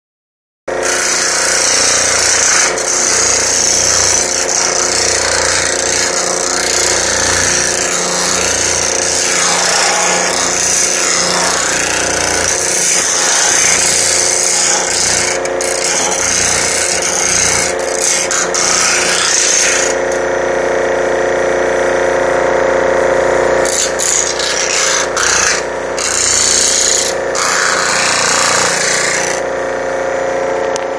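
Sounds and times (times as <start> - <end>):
forming machine hammering sheet metal: 0.8 - 20.2, 23.6 - 29.5.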